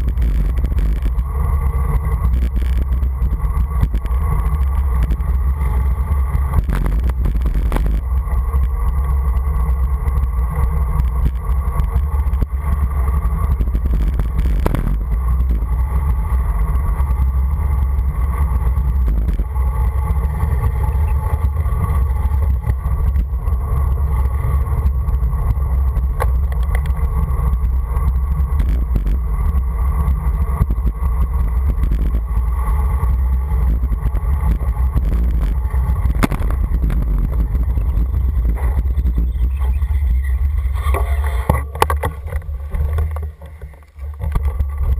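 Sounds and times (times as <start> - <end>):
road noise on asphalt: 0.0 - 44.9
wind buffeting microphone: 0.0 - 44.9.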